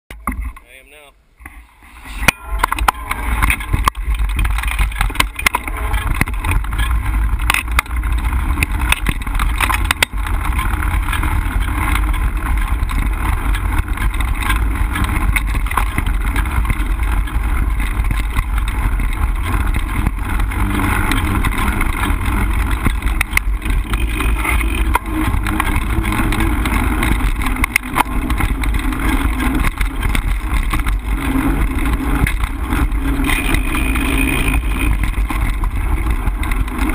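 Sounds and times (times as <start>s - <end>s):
bike clicking and rattling: 0.1s - 0.8s, 1.4s - 36.9s
tyres rumbling on dirt: 1.7s - 36.9s
wind on microphone: 1.7s - 36.9s.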